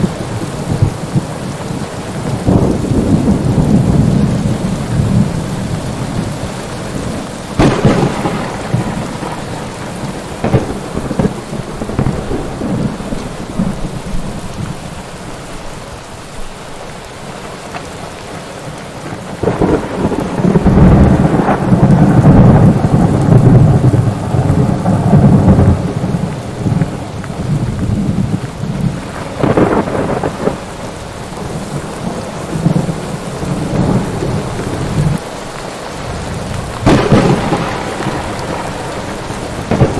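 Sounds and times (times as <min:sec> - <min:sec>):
thunder claps and rumble: 0:00.0 - 0:15.0, 0:19.0 - 0:39.9
steady rain: 0:00.0 - 0:39.9.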